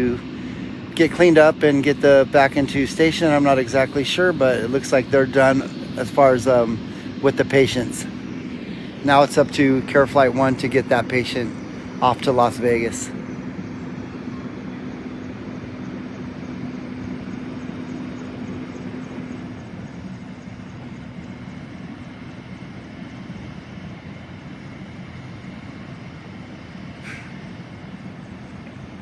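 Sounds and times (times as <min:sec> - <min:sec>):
helicopter engine and rotor drone: 0:00.0 - 0:29.0
steady hum: 0:00.0 - 0:29.0.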